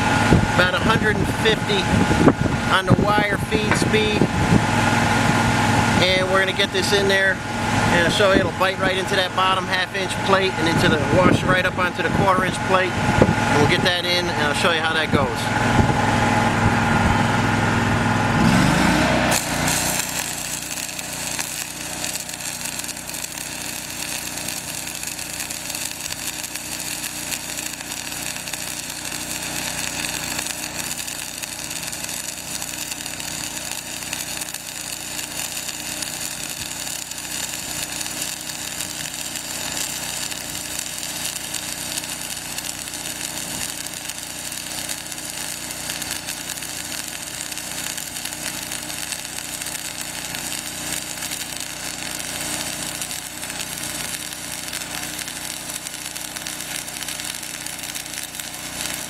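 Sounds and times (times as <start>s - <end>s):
engine hum: 0.0s - 59.0s
welding arc crackling: 0.0s - 59.0s.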